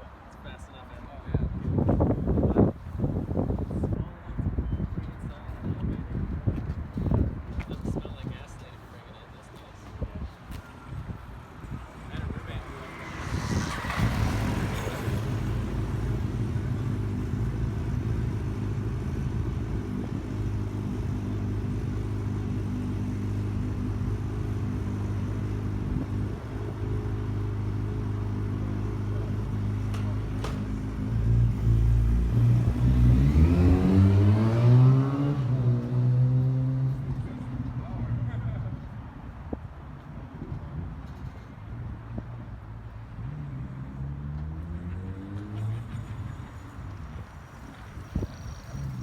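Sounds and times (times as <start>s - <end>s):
vehicle engine humming: 5.7s - 49.0s.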